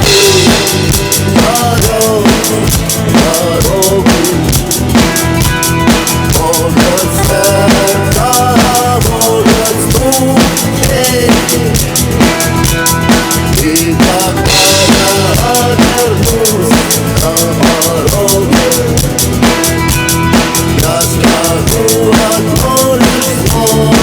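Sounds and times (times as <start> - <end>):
drum kit playing: 0.0 - 24.0
recorded rock song: 0.0 - 24.0.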